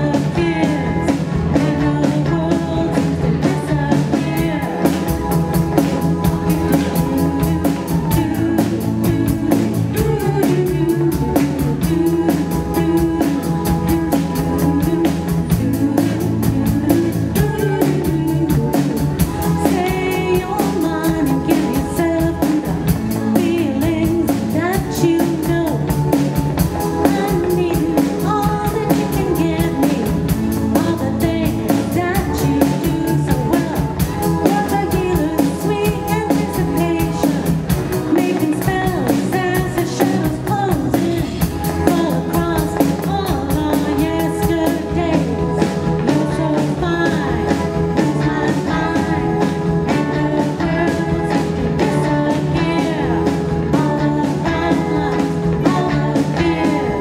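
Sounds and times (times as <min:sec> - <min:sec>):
drum kit: 0:00.0 - 0:57.0
electric bass: 0:00.0 - 0:57.0
electric guitar: 0:00.0 - 0:57.0
keyboard: 0:00.0 - 0:57.0
person singing lead vocals: 0:00.0 - 0:57.0.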